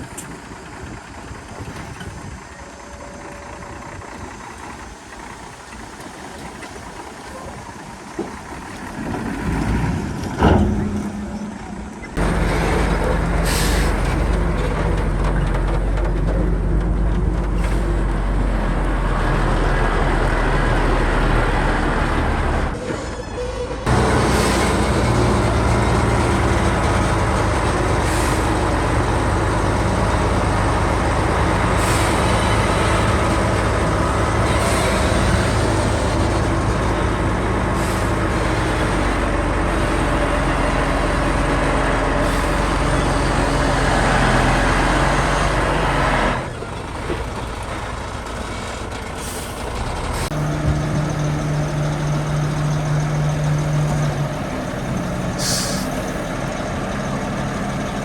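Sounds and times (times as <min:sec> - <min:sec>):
heavy diesel machinery engine drone: 0:00.0 - 0:58.0.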